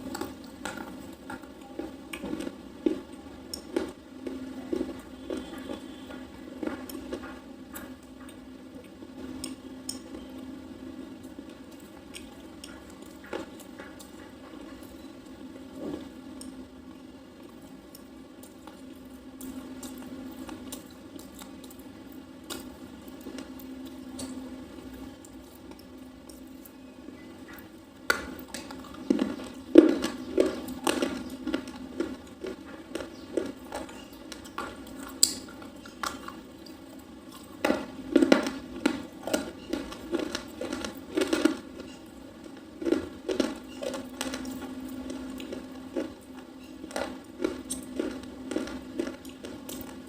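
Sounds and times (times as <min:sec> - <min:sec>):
person chewing crunchy pencil: 0:00.0 - 0:50.0.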